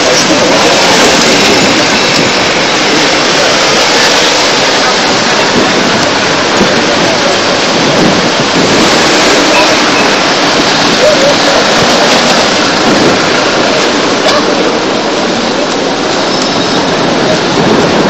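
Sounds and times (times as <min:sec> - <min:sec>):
faint crowd voices: 0:00.0 - 0:18.0
loud rushing noise: 0:00.0 - 0:18.0.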